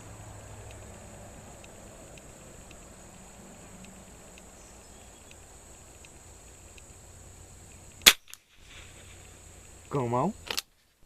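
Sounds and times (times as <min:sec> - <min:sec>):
faint ticks: 0:00.0 - 0:10.7
insects droning: 0:00.0 - 0:11.0.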